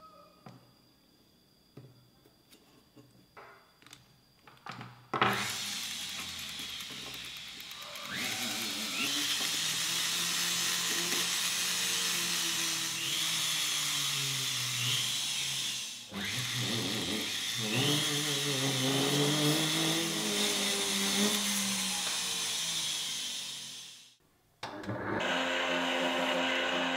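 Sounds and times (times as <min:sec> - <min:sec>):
rotary tool whining: 0:05.2 - 0:26.9.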